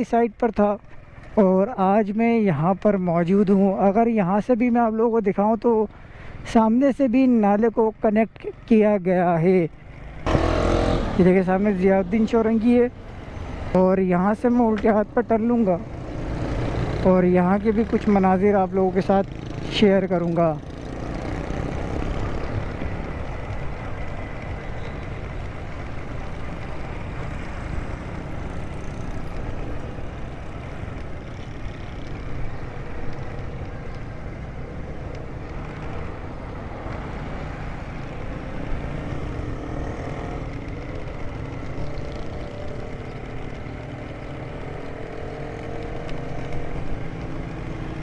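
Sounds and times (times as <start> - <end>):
motorcycle engines running: 0.0 - 48.0
road rumble: 0.0 - 48.0.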